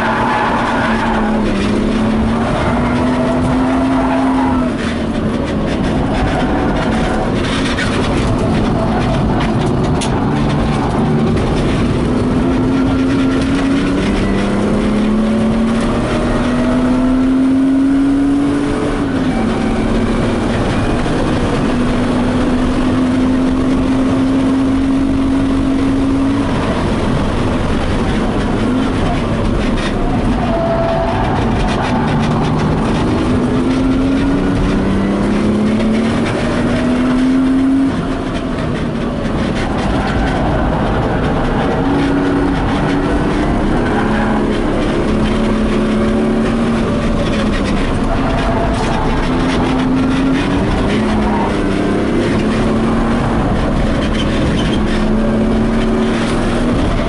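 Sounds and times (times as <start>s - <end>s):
car engine under hard driving: 0.0s - 57.0s
tyre and road noise: 0.0s - 57.0s.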